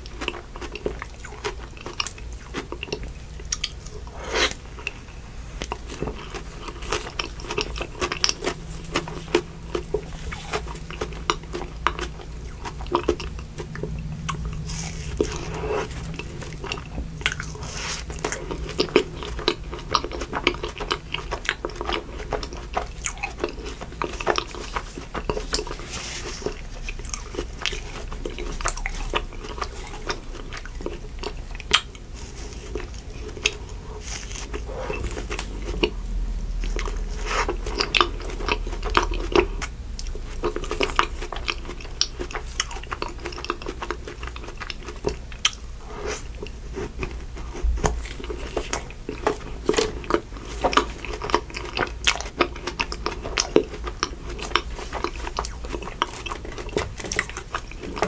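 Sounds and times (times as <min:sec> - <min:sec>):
chewing and crunching ice cream bar: 0:00.0 - 0:58.0.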